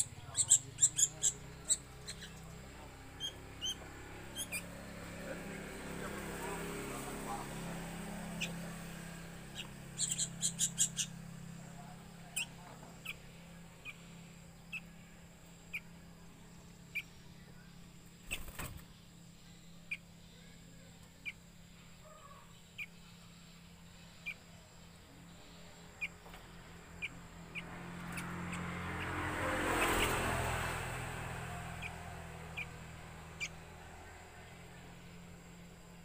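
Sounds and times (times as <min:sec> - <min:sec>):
steady low hum: 0:00.0 - 0:36.0
young birds begging chirps: 0:00.0 - 0:36.0.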